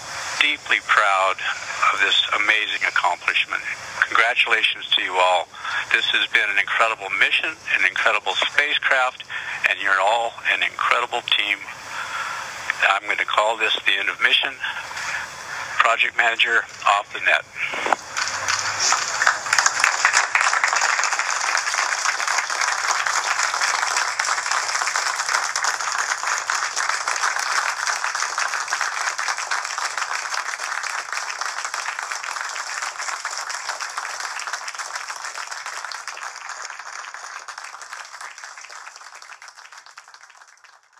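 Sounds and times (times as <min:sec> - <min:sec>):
crowd applauding: 0:00.0 - 0:14.0, 0:17.7 - 0:40.9.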